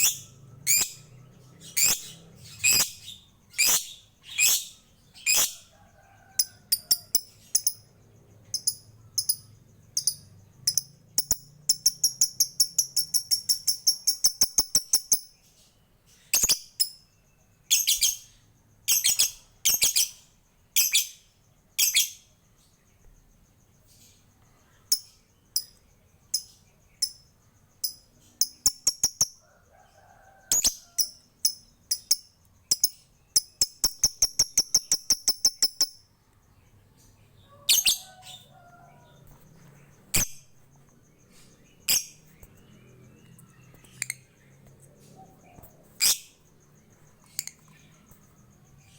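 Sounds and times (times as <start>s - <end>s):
lovebird chirping and chattering: 0.0s - 5.7s, 6.4s - 17.1s, 17.7s - 20.2s, 20.8s - 22.3s, 24.8s - 29.4s, 30.5s - 36.1s, 37.6s - 38.5s, 39.9s - 40.5s, 41.1s - 48.9s.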